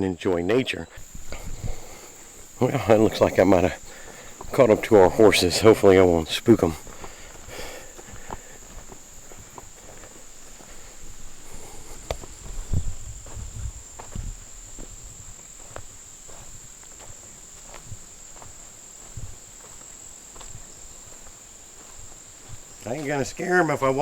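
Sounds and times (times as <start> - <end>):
insects buzzing: 0.0 - 24.0
footsteps on forest trail: 0.8 - 24.0.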